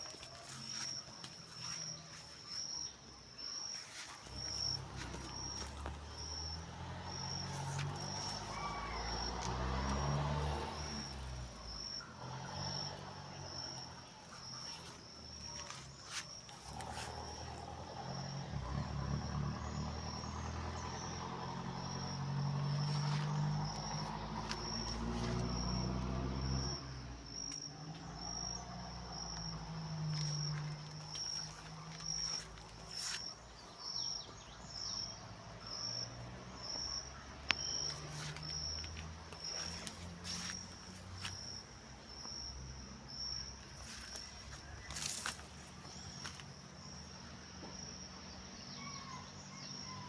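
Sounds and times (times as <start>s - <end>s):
insect chirping: 0.0s - 50.0s.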